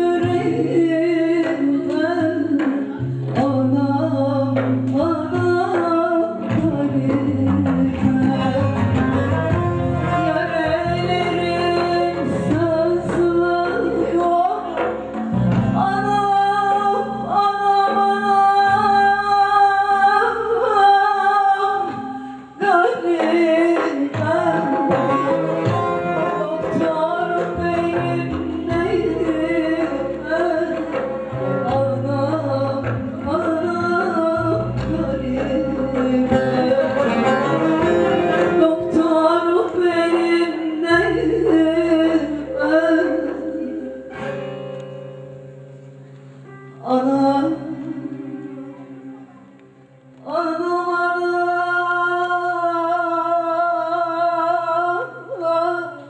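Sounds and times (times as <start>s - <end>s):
woman singing into a microphone: 0.0s - 44.7s, 46.4s - 56.0s
hand drum: 0.0s - 49.9s
lute playing: 0.0s - 55.9s.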